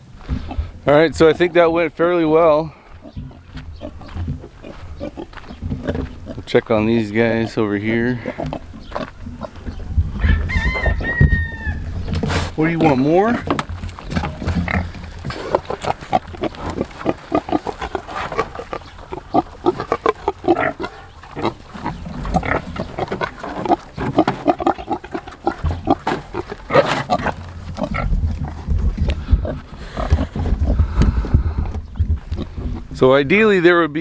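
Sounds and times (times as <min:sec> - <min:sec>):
pigs grunting: 0:00.2 - 0:33.5.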